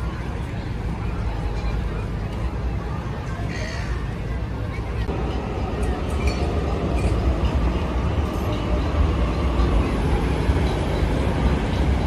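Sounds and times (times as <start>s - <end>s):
train rumbling over viaduct: 0.0s - 12.0s.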